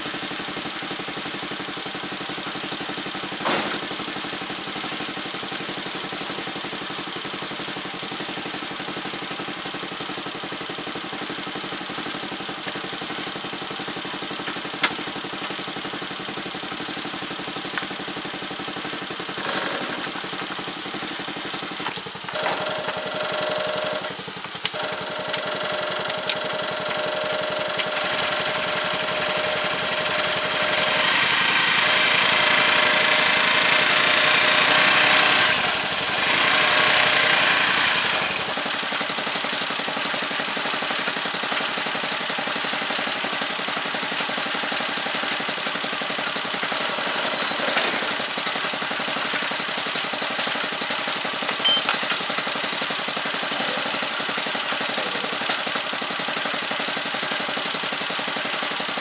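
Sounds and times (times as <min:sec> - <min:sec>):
tricycle engine running: 0:00.0 - 0:59.0.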